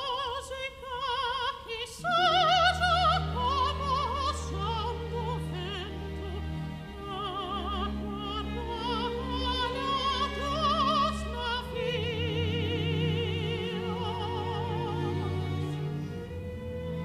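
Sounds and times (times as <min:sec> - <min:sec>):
soprano singing with vibrato: 0:00.0 - 0:17.0
orchestra sustained low notes: 0:02.0 - 0:17.0.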